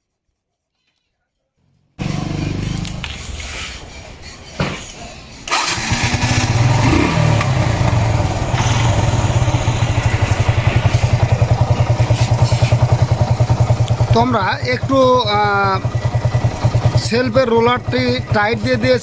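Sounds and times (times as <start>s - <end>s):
motorcycle engine starting and idling: 2.0s - 19.0s.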